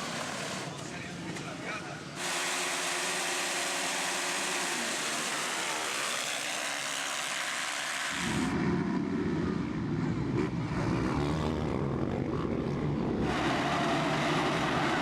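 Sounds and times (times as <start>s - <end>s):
motocross bike engines: 0.0s - 15.0s.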